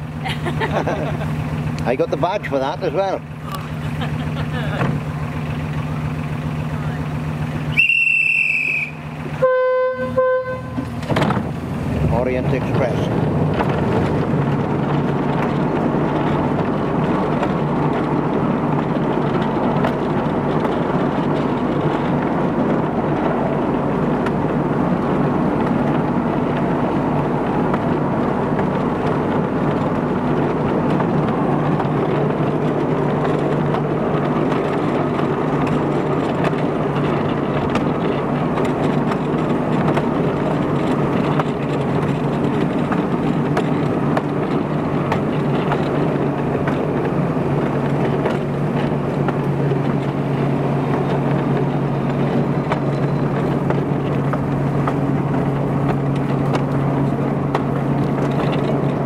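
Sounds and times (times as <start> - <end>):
train wheels rumbling and rattling: 0.0 - 59.0.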